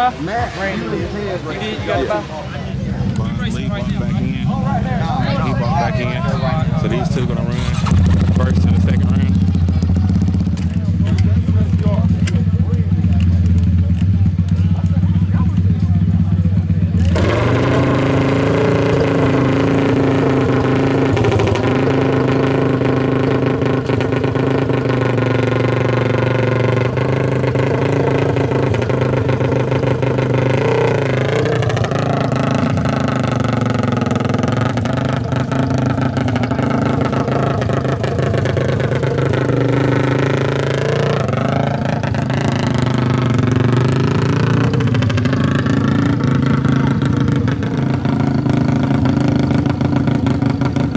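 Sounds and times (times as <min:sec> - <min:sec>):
atv engines idling: 0:00.0 - 0:50.9.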